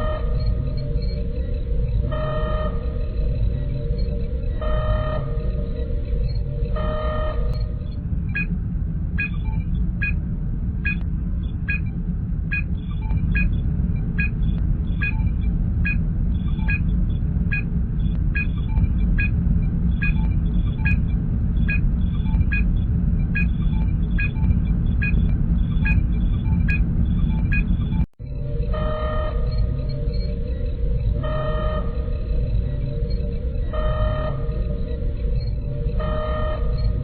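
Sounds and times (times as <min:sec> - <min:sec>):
low engine hum: 0:00.0 - 0:37.0.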